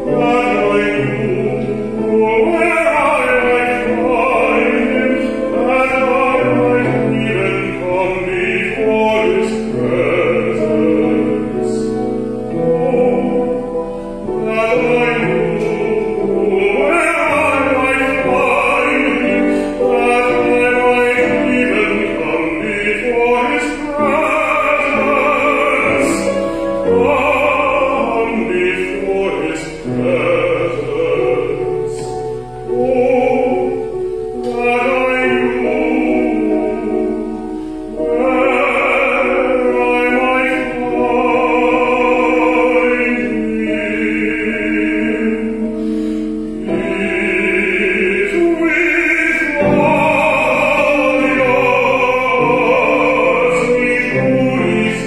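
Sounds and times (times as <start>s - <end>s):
person singing operatically: 0.0s - 45.8s, 46.4s - 55.0s
sustained accompaniment: 0.0s - 55.0s.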